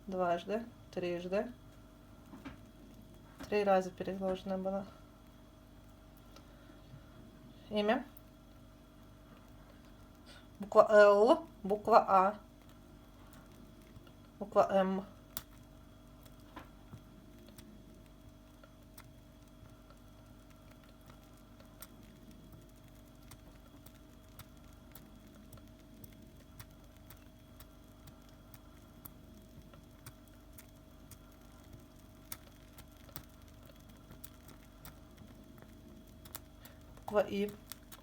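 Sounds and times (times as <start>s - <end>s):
faint hum: 0.0s - 38.0s
small clicks and ticks: 1.4s - 6.6s, 8.1s - 10.7s, 11.3s - 38.0s.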